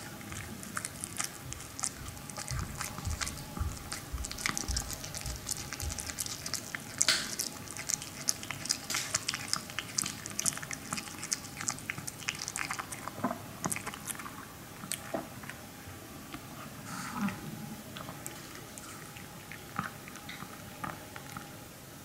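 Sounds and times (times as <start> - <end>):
dog chewing crunchy treat: 0.0 - 15.7, 17.2 - 21.6.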